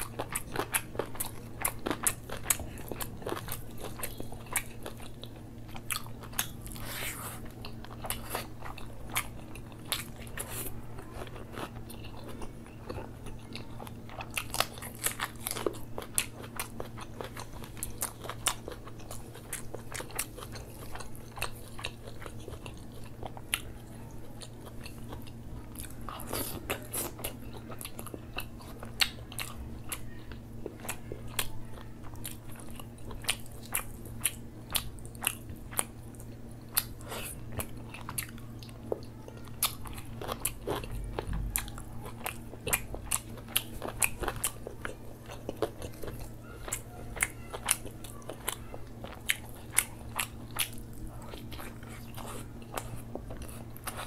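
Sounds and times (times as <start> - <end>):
chewing with mouth clicks: 0.0 - 54.0.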